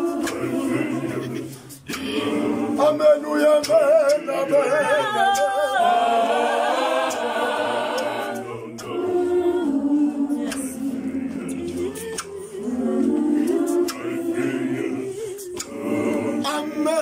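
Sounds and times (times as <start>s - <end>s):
choir singing a hymn a cappella: 0.0s - 17.0s.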